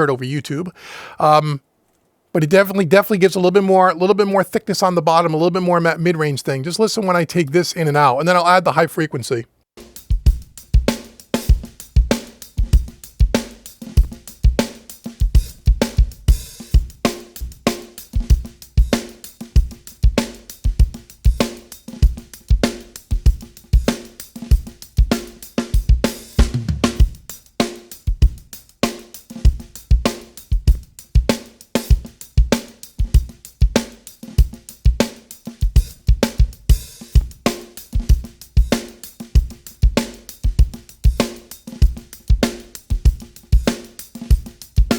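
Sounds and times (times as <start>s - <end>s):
saturated drum kit groove: 2.4s - 44.9s.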